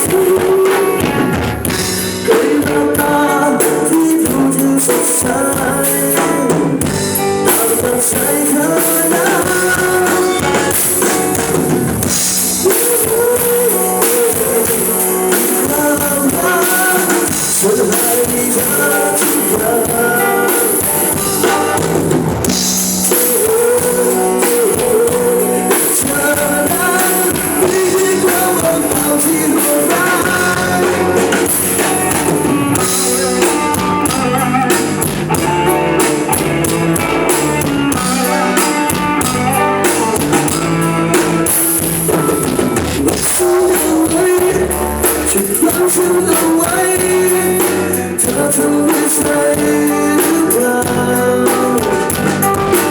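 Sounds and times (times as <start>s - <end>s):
male singer: 0.0s - 22.1s, 22.8s - 52.9s
bass guitar: 0.0s - 52.9s
drum kit: 0.0s - 52.9s
guitar: 0.0s - 52.9s.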